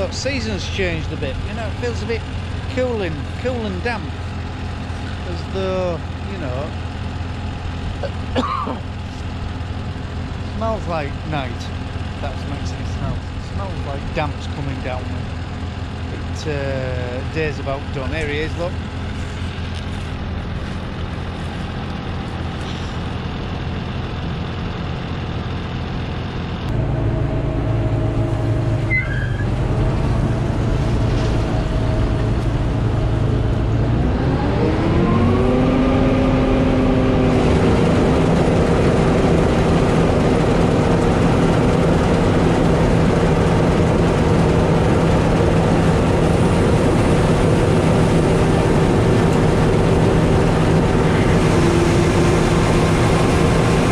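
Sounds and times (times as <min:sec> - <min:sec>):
combine harvester engine running: 0:00.0 - 0:53.9.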